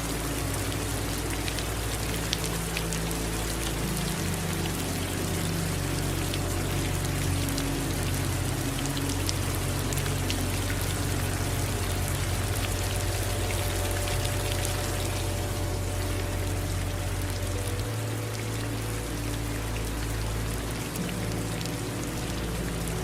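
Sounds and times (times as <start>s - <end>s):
low steady hum: 0.0s - 23.0s
steady rain falling: 0.0s - 23.0s.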